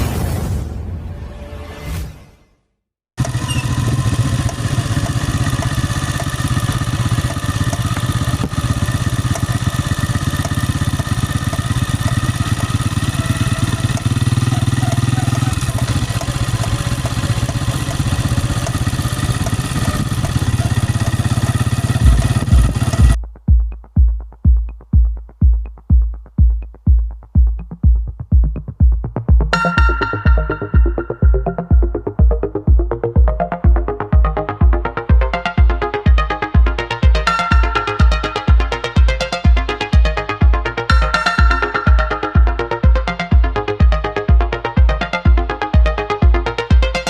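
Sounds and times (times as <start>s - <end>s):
motorcycle engine running: 3.2s - 23.8s, 25.4s - 47.0s
electronic drum beat: 3.3s - 47.0s.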